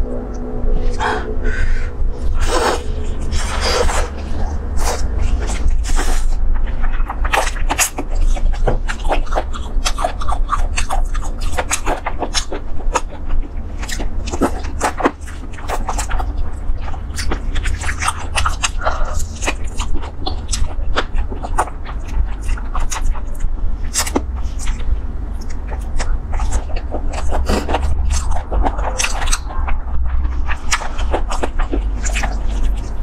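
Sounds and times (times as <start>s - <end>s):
steady low hum: 0.0s - 33.0s
person chewing and sucking: 0.2s - 33.0s.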